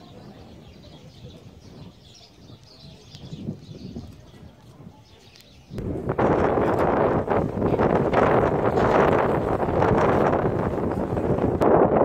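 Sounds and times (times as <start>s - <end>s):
birds chirping: 0.0s - 11.6s
wind buffeting microphone: 0.0s - 12.0s.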